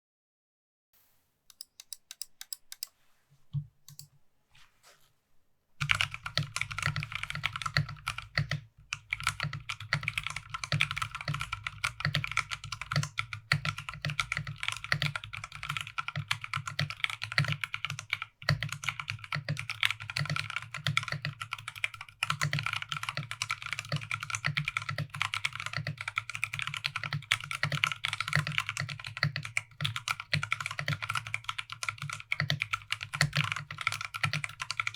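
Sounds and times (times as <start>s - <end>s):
mechanical keyboard typing: 1.5s - 2.9s, 5.8s - 34.9s.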